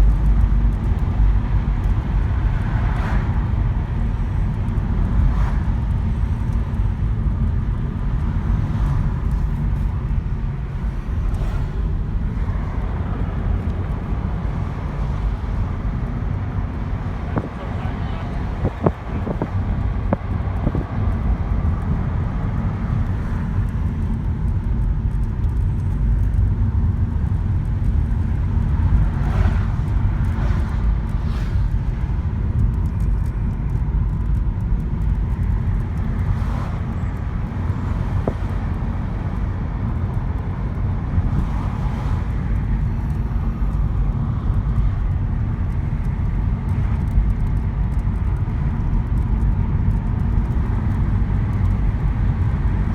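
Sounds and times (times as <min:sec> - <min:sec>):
car engine and tyre noise: 0:00.0 - 0:52.9.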